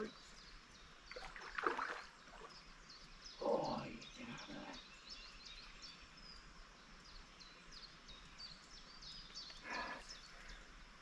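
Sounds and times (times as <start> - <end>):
faint outdoor background noise: 0.0 - 11.0
small bird chirping: 0.0 - 11.0.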